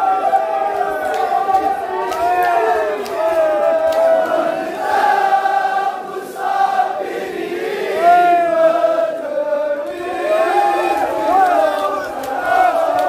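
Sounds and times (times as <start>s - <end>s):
men singing a lament in unison: 2.4s - 13.0s.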